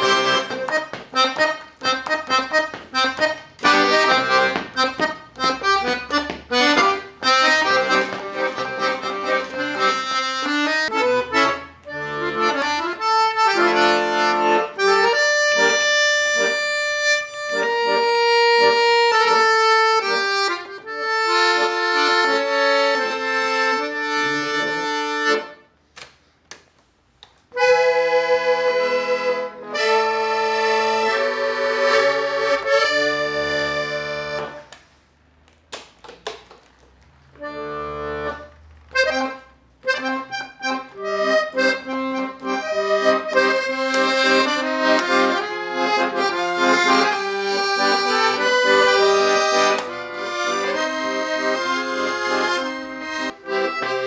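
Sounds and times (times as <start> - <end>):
accordion playing: 0.0 - 25.8, 27.5 - 35.2, 37.2 - 54.0.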